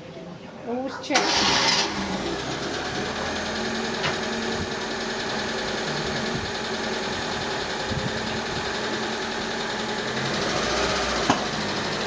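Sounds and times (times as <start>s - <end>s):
car engine idling: 1.2s - 12.0s.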